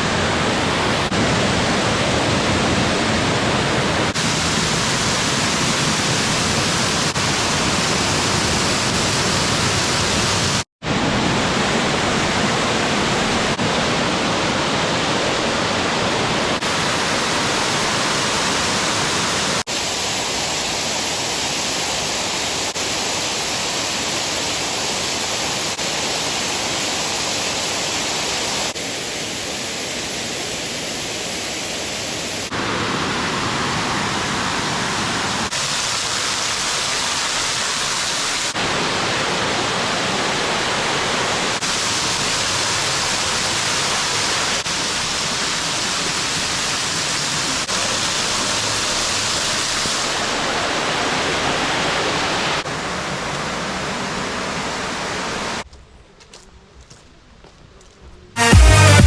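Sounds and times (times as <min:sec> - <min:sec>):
waterfall rushing: 0:00.0 - 0:55.6, 0:58.4 - 0:59.0.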